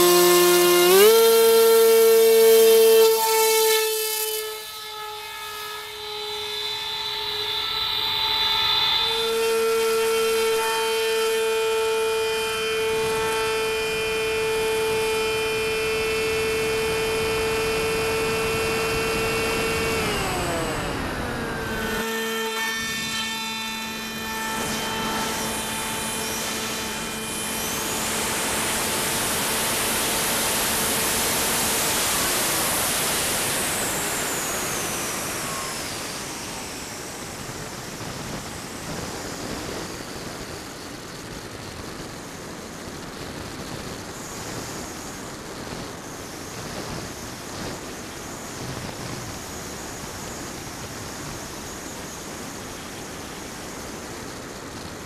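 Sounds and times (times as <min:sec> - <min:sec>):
electric motor propeller whine: 0:00.0 - 0:55.0.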